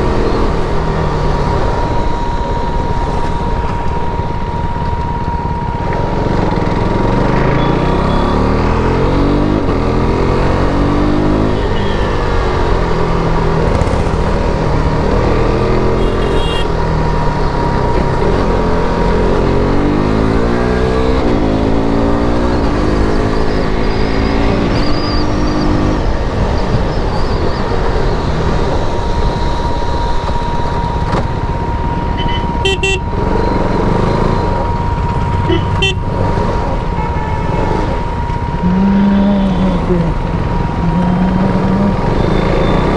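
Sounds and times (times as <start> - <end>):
motorcycle engine revving: 0.0 - 26.4, 30.4 - 42.9
wind and road noise: 0.0 - 42.9.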